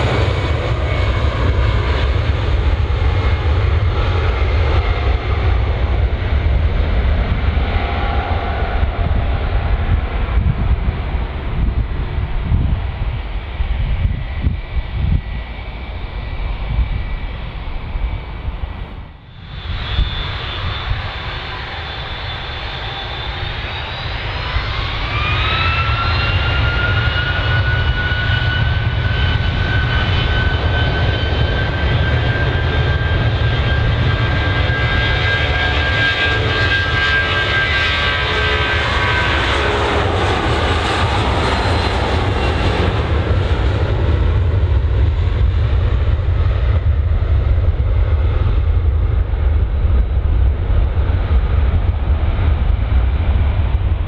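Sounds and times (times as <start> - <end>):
heavy jet engine rumble: 0.0 - 54.0
jet engines whining: 0.0 - 54.0.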